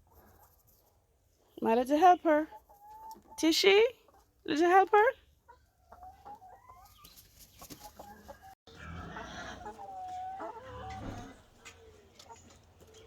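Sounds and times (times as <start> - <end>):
hens clucking: 2.3 - 13.0.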